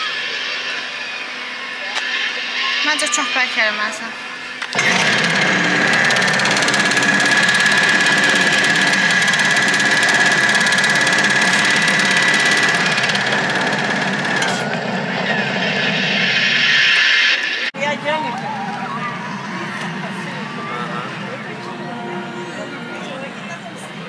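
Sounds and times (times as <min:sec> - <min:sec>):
engine drone: 0:00.0 - 0:24.0
thin high whine: 0:00.0 - 0:24.0.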